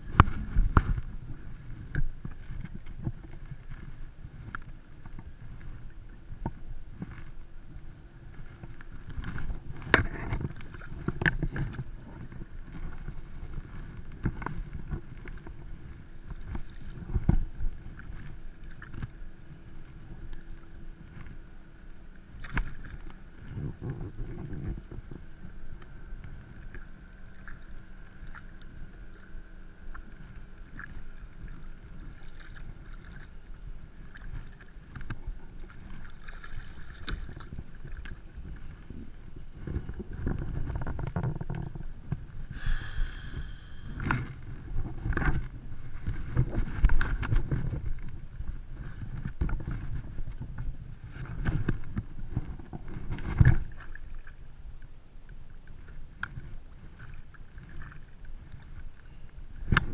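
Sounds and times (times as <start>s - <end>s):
steady low rumble: 0.0s - 59.9s
water lapping against kayak hull: 0.0s - 59.9s.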